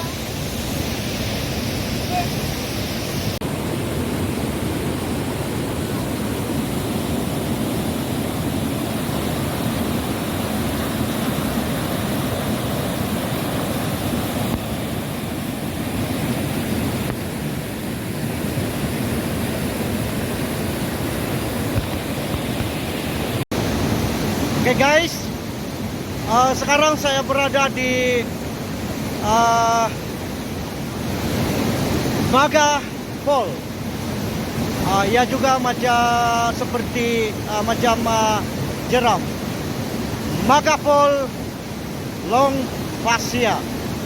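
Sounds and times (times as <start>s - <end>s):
waterfall over rock rapids: 0.0s - 44.0s.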